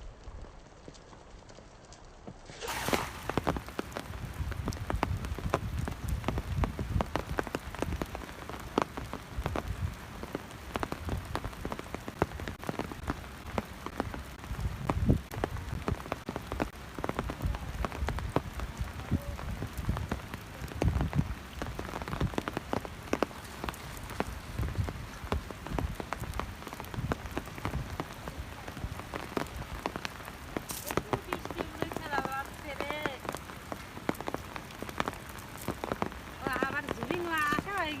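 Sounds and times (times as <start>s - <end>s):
raindrops spattering nearby: 0.0s - 38.0s
steady rain falling: 0.0s - 38.0s.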